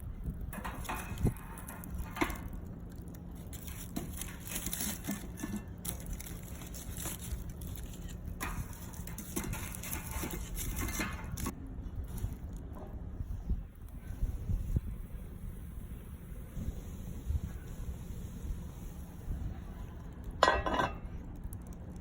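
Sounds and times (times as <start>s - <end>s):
wood fire hissing and crackling: 0.0s - 22.0s.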